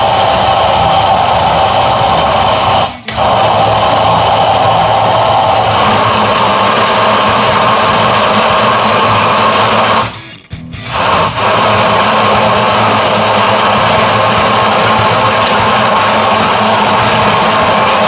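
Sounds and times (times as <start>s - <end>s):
blender motor whining: 0.0s - 10.2s, 10.8s - 18.0s.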